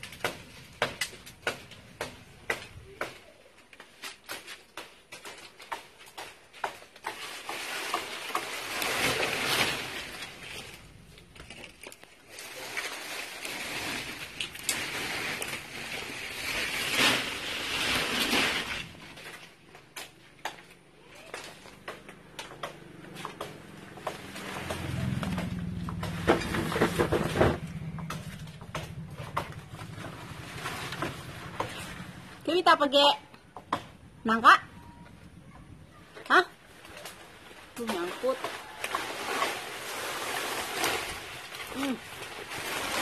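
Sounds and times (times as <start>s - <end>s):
foliage and branches rustling: 0.0s - 43.0s.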